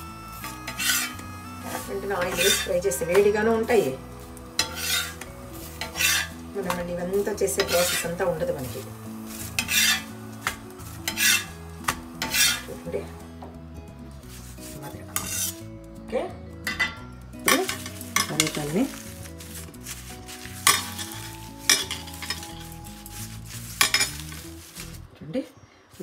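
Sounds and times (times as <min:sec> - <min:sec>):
metal spatula scraping griddle: 0:00.0 - 0:12.9, 0:14.2 - 0:15.7, 0:16.7 - 0:25.1
sizzling on hot griddle: 0:00.0 - 0:15.8, 0:16.6 - 0:25.1
faint background music: 0:00.0 - 0:26.0.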